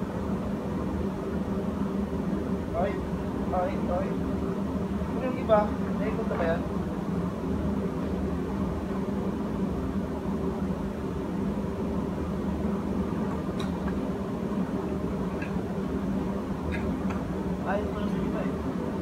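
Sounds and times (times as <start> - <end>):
engine-room machinery drone: 0.0 - 19.0.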